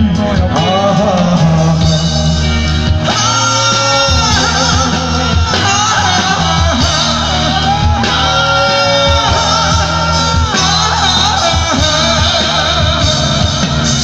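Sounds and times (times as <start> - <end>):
live band playing: 0.0 - 14.0
singer holding long notes: 0.0 - 14.0.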